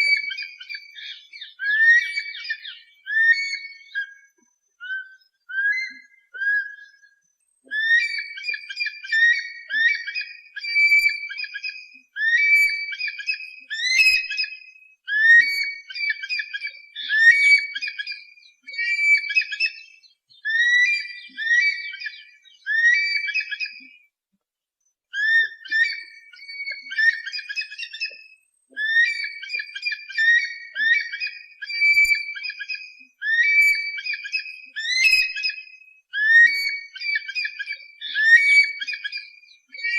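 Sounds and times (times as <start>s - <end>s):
eagle shrill whistled calls: 0.0s - 4.2s, 4.8s - 23.9s, 25.2s - 39.9s.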